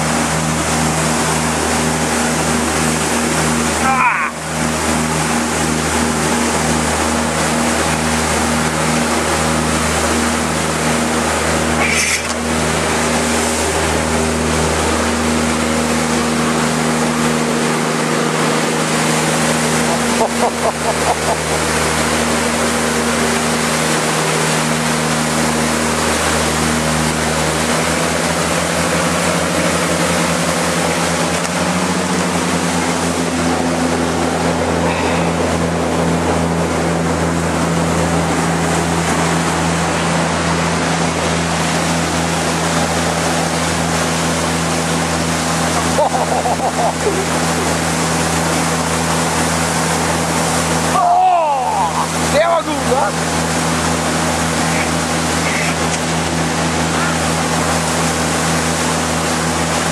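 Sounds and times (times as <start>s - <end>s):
motorboat engine running: 0.0s - 59.9s
water rushing along hull: 0.0s - 59.9s
water splashes: 0.0s - 59.9s.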